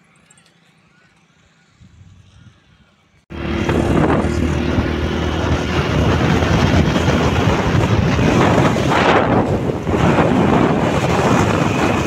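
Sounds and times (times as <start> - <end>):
motorbike engine hum: 0.0 - 12.0
wind buffeting microphone: 1.8 - 12.0.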